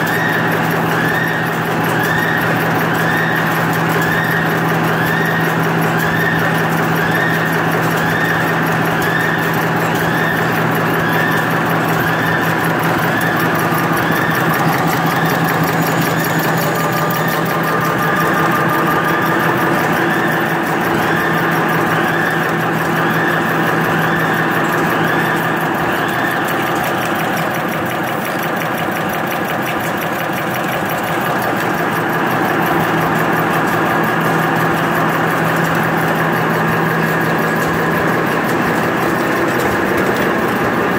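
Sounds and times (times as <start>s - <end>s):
machine mechanical hum: 0.0s - 40.9s.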